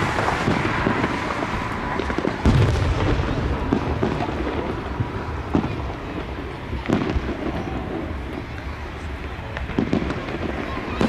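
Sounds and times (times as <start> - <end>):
low rumble: 0.0 - 10.4
fireworks bangs and booms: 0.0 - 11.0.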